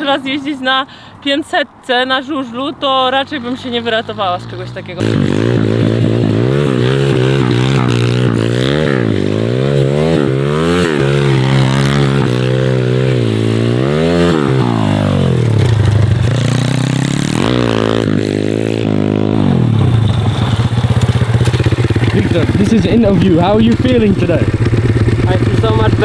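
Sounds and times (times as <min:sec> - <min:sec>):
motorbike engine revving: 0:02.9 - 0:26.0.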